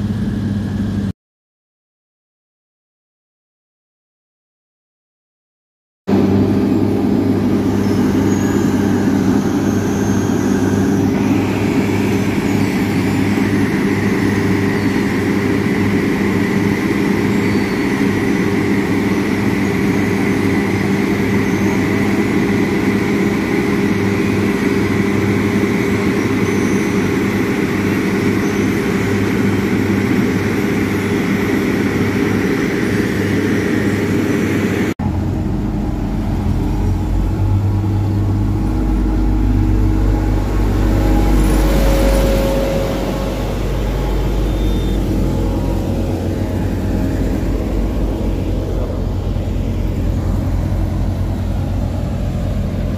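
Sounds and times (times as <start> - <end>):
diesel engine running: 0.0 - 1.1, 6.1 - 52.9
high whine: 6.1 - 52.9
road roller engine rumble: 6.1 - 52.9.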